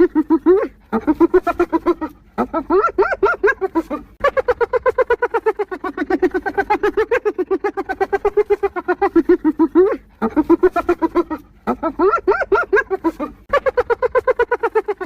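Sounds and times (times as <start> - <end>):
hyena giggling: 0.0 - 15.0.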